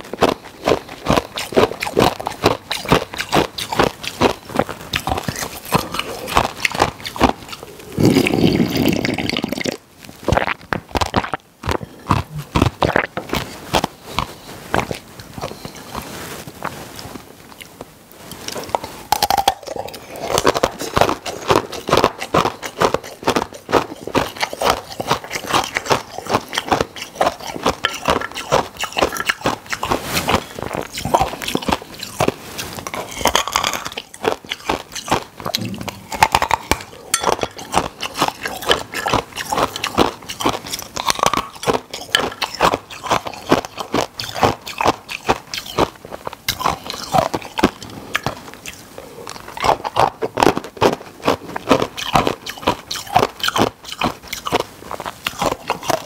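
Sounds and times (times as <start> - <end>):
ice crunching between teeth: 0.0 - 56.0.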